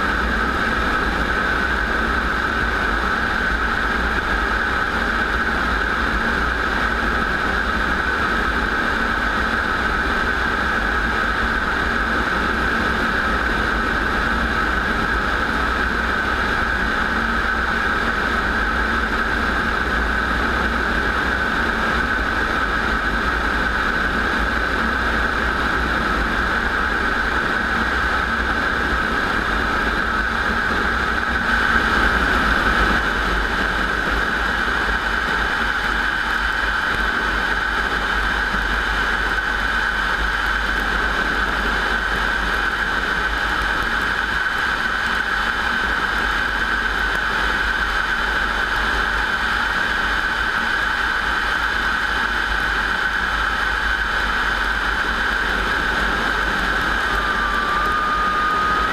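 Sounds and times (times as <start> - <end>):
piston aircraft engine running: 0.0 - 58.9.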